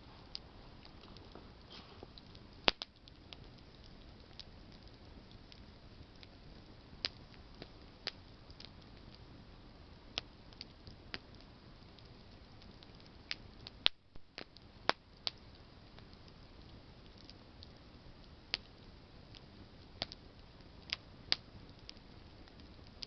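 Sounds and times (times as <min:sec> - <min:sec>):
soft steady fire hiss: 0:00.0 - 0:23.0
campfire crackling and popping: 0:00.1 - 0:23.0.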